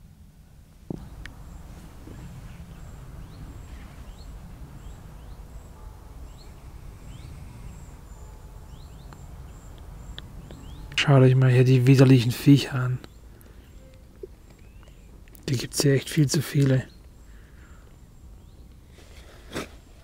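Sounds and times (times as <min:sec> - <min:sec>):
steady low rumble: 0:00.0 - 0:18.9
high insect chirp: 0:00.9 - 0:18.7.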